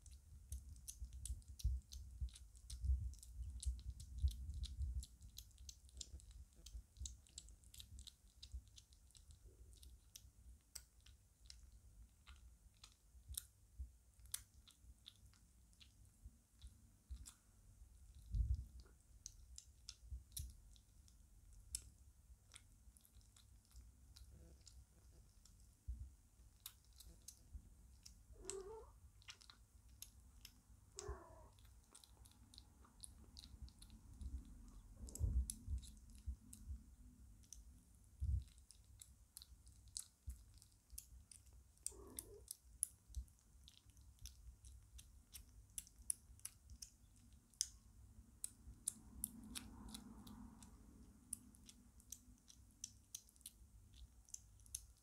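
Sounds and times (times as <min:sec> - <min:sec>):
kitten chewing wetly: 0:00.0 - 0:55.0.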